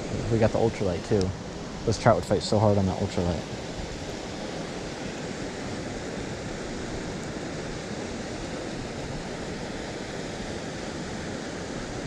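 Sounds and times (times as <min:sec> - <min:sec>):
steady rushing noise outdoors: 0:00.0 - 0:12.0.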